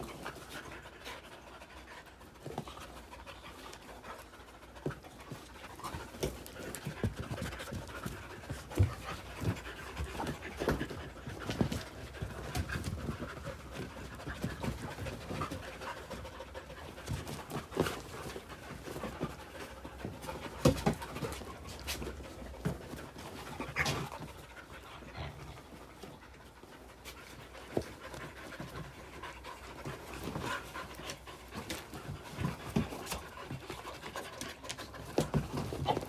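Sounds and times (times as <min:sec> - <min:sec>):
dogs panting and snuffling: 0:00.0 - 0:36.0
dogs scuffling and thumping: 0:00.0 - 0:36.0.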